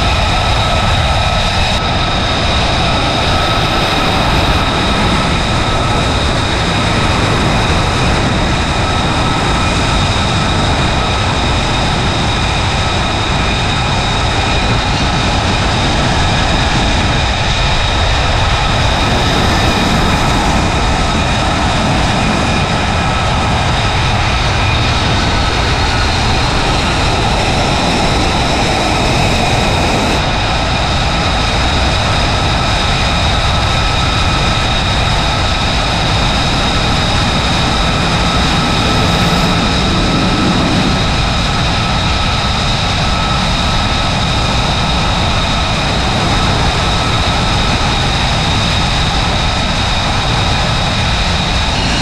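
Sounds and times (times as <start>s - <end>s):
high-pitched engine whine: 0.0s - 52.0s
jet engines running: 0.0s - 52.0s.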